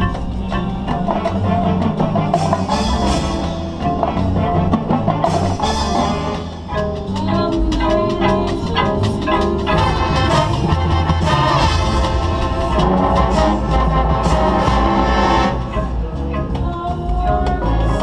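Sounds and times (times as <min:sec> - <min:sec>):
drums: 0:00.0 - 0:18.0
marching band melody: 0:00.0 - 0:18.0.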